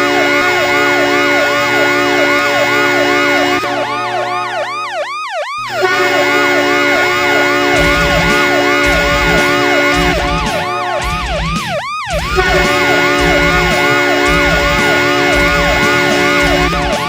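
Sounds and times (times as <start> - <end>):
hockey goal horn: 0.0 - 4.6, 5.6 - 17.0
siren wailing: 0.0 - 17.0.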